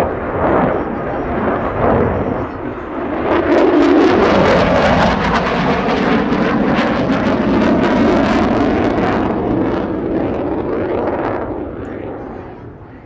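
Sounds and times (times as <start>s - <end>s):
jet engine passing: 0.0s - 13.0s.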